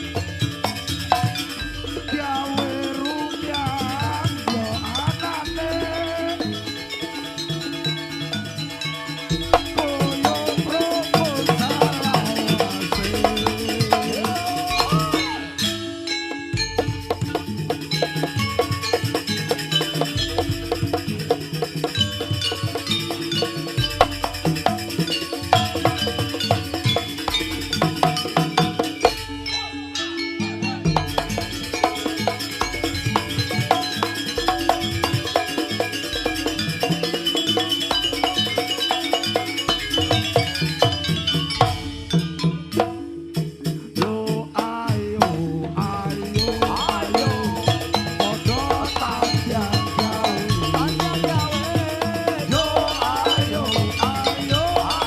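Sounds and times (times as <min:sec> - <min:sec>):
drum and metal strikes: 0:00.0 - 0:29.6, 0:30.8 - 0:55.0
wavering pitch-bending melody: 0:00.0 - 0:44.2, 0:46.0 - 0:55.0
ringing struck metal notes: 0:00.0 - 0:45.2
shaken percussion rattling: 0:00.0 - 0:55.0.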